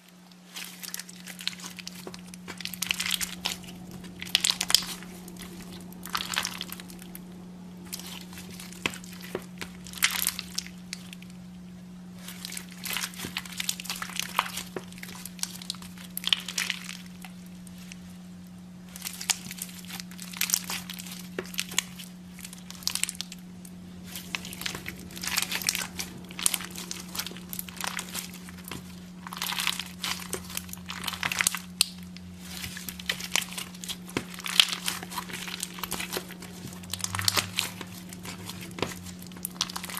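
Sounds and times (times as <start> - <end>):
steady low hum: 0.0 - 39.9
slime squeezed crackling and popping: 0.1 - 18.1, 18.8 - 39.9.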